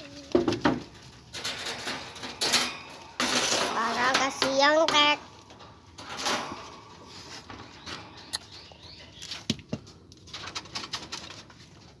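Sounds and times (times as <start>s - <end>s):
rustling in rabbit cage: 0.0s - 12.0s
clicks and taps on wire cage: 0.3s - 8.6s, 9.2s - 11.9s.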